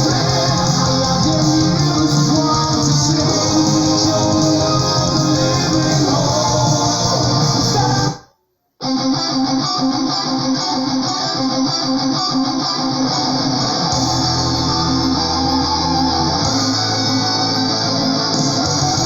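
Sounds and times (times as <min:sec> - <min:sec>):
melodic metal with guitars: 0:00.0 - 0:08.2, 0:08.8 - 0:19.0.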